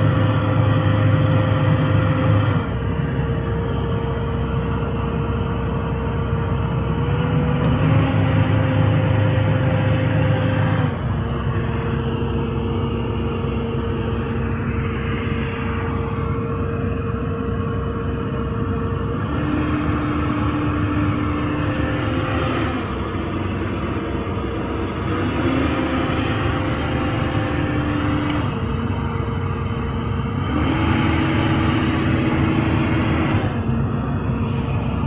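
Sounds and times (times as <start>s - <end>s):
excavator diesel rumble: 0.0s - 35.0s
hydraulic whine: 0.0s - 35.0s.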